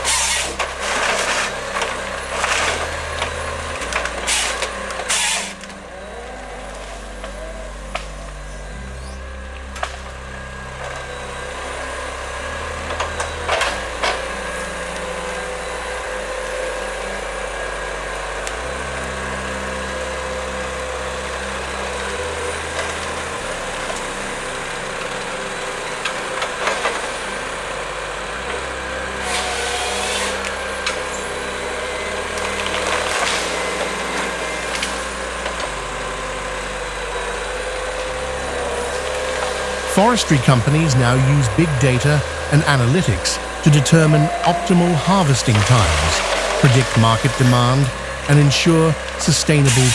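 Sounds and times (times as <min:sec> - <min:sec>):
heavy machinery engine running: 0:00.0 - 0:49.9.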